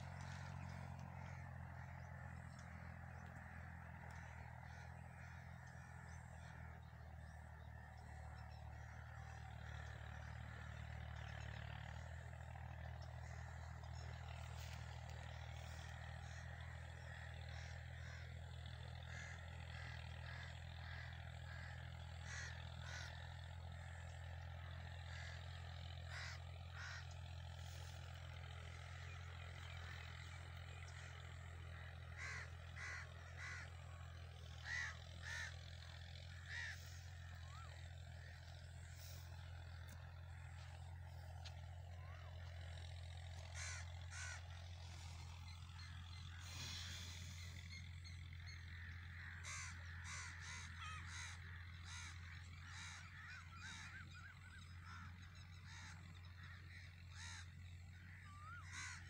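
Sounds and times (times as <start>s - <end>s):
steady low hum: 0.0s - 57.4s
birds calling faintly: 0.0s - 59.0s.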